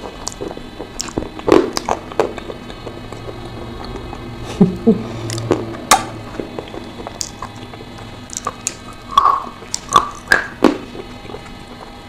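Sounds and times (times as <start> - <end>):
wet mouth sounds: 0.0 - 12.0.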